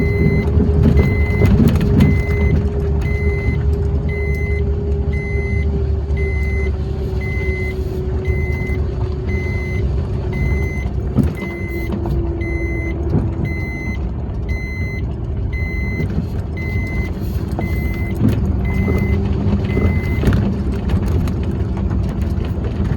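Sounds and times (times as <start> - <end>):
electronic warning beep: 0.0 - 20.2
vehicle engine rumbling: 0.0 - 22.9.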